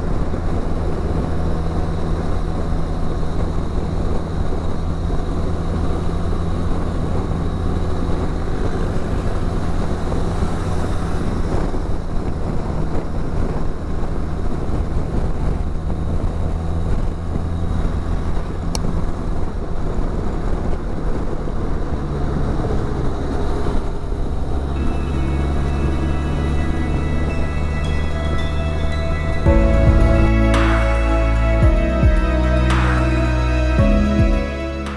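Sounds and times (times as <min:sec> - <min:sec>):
wind and road noise: 0:00.0 - 0:34.9.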